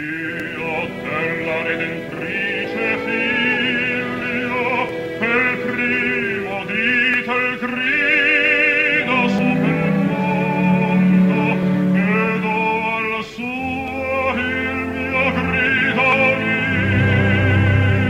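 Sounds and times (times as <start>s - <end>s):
baritone opera singing: 0.0s - 18.0s
opera orchestra: 0.0s - 18.0s.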